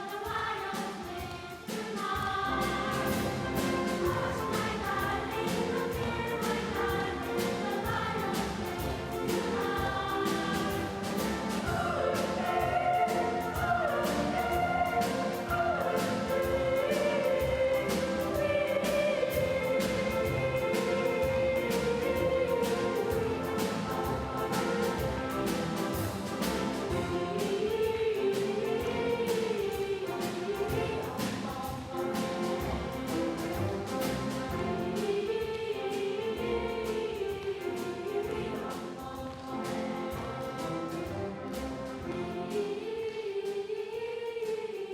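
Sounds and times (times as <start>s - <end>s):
children's choir singing: 0.0s - 44.9s
orchestra playing: 0.2s - 43.1s.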